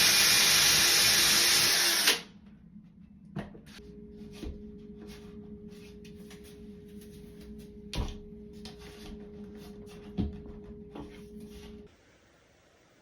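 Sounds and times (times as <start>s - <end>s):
steady hum: 2.2s - 13.0s.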